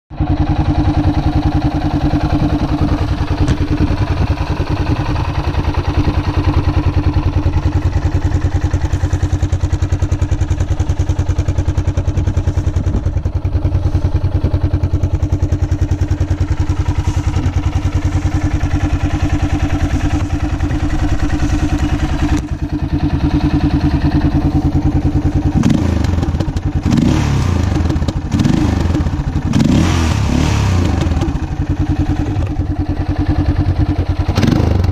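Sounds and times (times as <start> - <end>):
motorcycle engine idling: 0.1 - 34.9
engine revving: 0.2 - 9.8, 10.4 - 34.9.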